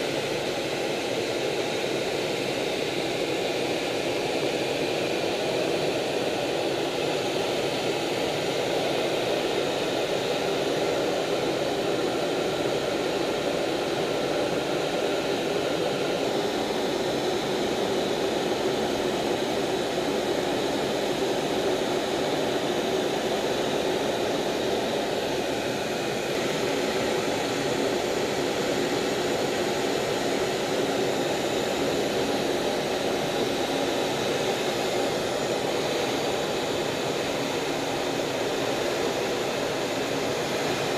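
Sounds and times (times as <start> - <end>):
jet engine and airflow roar: 0.0 - 40.9.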